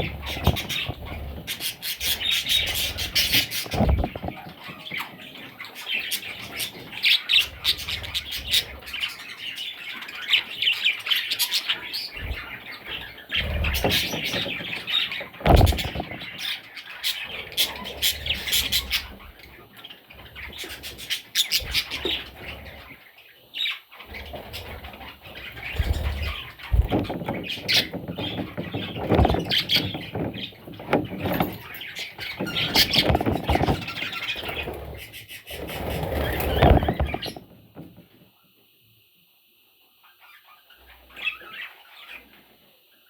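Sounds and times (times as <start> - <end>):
budgie chicks squealing and chirping: 0.0 - 37.5.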